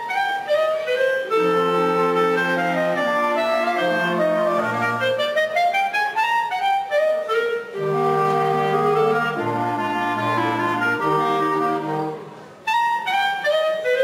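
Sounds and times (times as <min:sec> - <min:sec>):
clarinet ensemble playing: 0:00.0 - 0:14.0.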